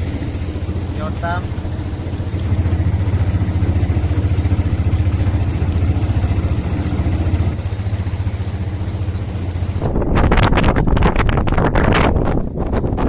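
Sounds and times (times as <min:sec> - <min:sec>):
small engine running: 0:00.0 - 0:11.5.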